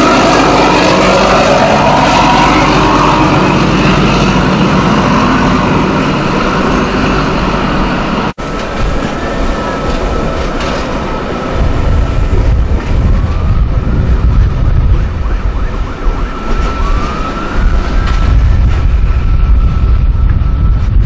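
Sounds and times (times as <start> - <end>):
diesel train engine under load: 0.0 - 21.0
electric train rolling rumble: 0.0 - 21.0.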